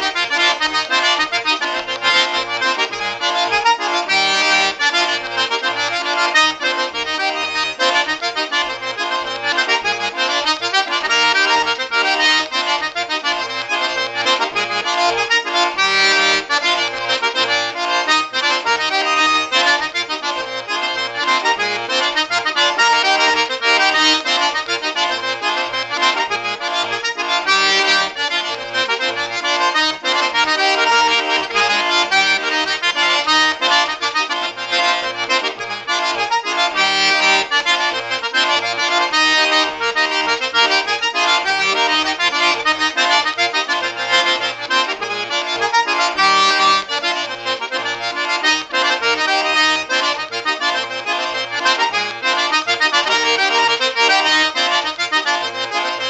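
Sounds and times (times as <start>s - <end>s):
button accordion playing lively tune: 0.0s - 56.0s.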